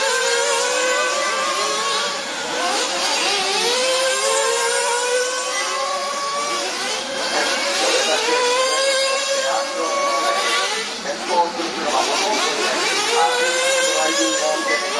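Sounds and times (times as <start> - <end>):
model buggy engines racing: 0.0 - 14.9.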